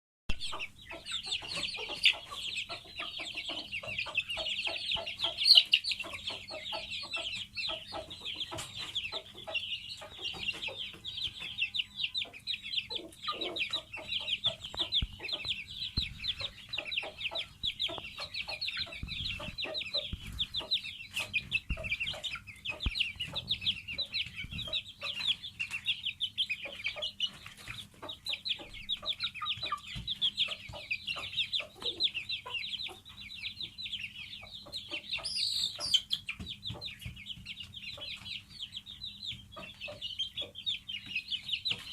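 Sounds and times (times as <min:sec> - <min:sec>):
chicks peeping: 0:00.3 - 0:41.9.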